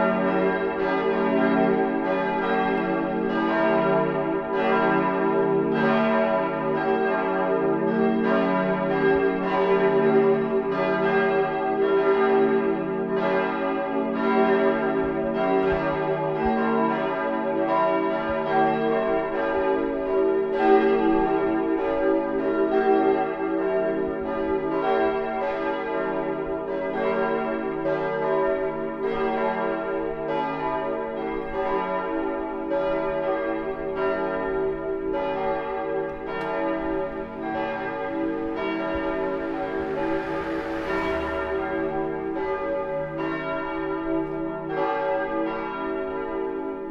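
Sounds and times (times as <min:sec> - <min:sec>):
church bells pealing: 0:00.0 - 0:46.9.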